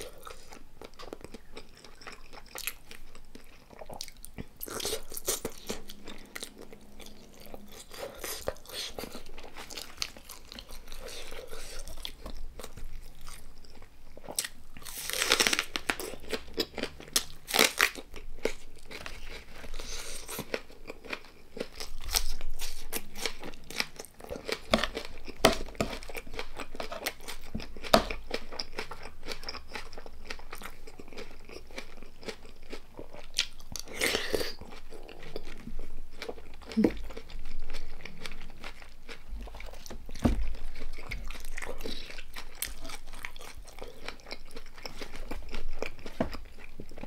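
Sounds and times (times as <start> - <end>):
person chewing crunchy food: 0.0 - 47.0.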